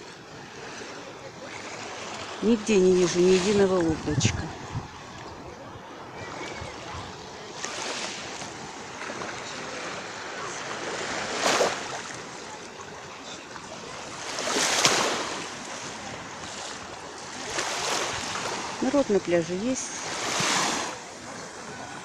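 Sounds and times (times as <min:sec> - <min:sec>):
small waves lapping on shore: 0:00.0 - 0:22.0.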